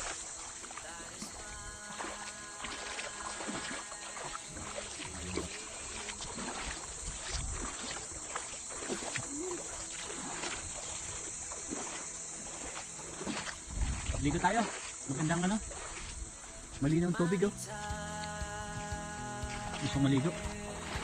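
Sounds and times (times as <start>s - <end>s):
water lapping at shore: 0.0s - 21.0s.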